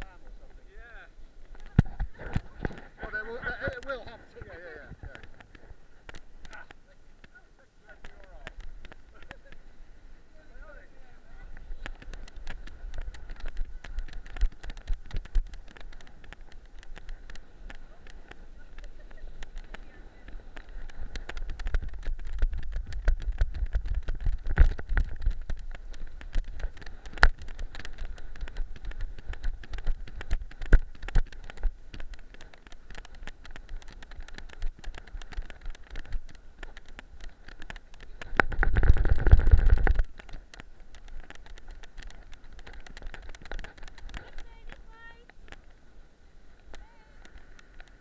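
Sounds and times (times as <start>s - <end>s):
wind rumbling on microphone: 0.0s - 48.0s
scratches and clicks on sand: 1.8s - 9.8s, 11.5s - 45.8s, 46.6s - 48.0s.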